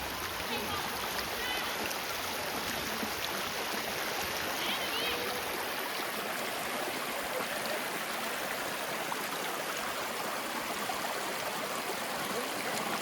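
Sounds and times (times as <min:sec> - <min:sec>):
water flowing over waterfall: 0:00.0 - 0:13.0.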